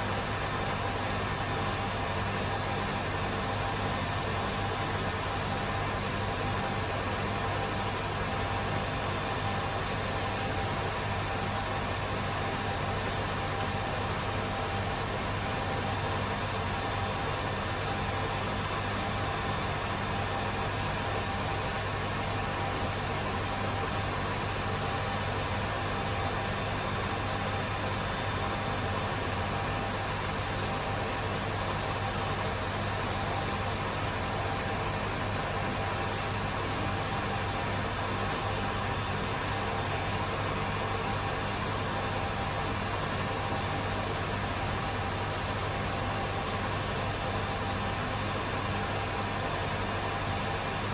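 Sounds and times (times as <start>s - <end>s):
washing machines spinning: 0.0s - 50.9s.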